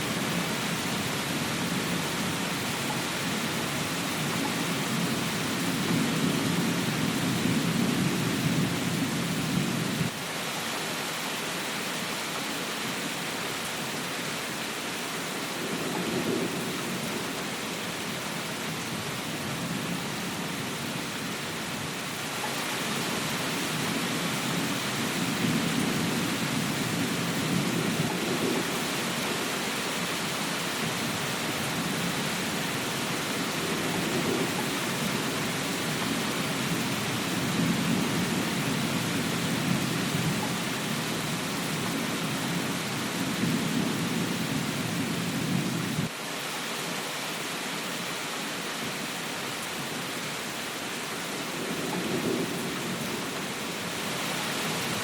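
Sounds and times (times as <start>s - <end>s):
rain: 0.0s - 55.0s.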